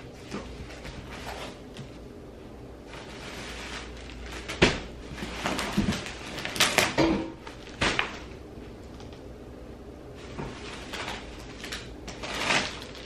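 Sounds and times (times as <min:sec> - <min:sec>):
cardboard and plastic rustling: 0:00.0 - 0:02.1, 0:02.8 - 0:09.2, 0:10.1 - 0:13.0.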